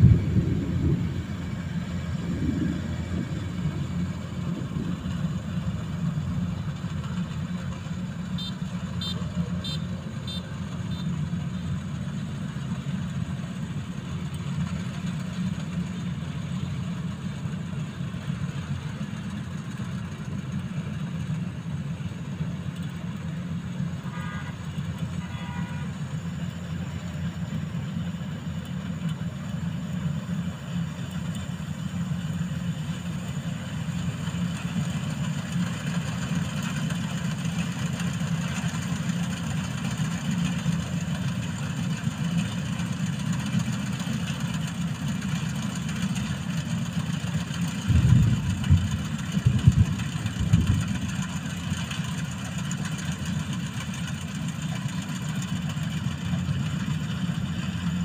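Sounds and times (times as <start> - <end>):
harvester engine rumble: 0.0 - 58.0.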